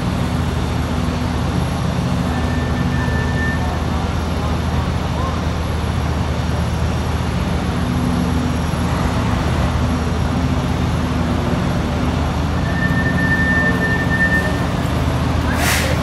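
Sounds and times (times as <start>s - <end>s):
heavy vehicle engine hum: 0.0s - 16.0s.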